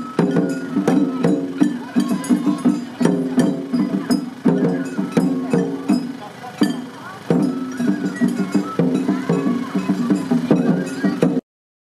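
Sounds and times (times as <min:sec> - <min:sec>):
festival drums and percussion: 0:00.0 - 0:11.4.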